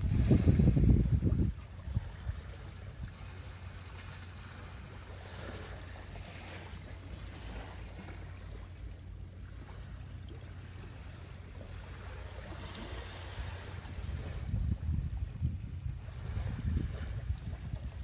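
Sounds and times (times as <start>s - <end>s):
sea waves: 0.0s - 18.0s
wind rumbling on microphone: 0.0s - 18.0s.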